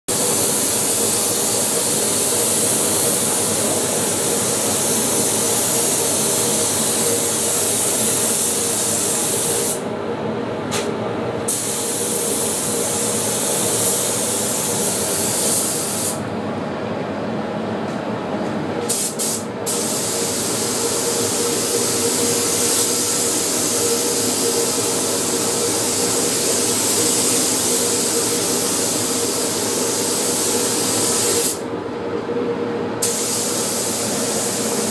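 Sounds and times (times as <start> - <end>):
spray gun hissing: 0.2 - 9.8, 11.5 - 16.2, 18.9 - 31.6, 33.0 - 34.9.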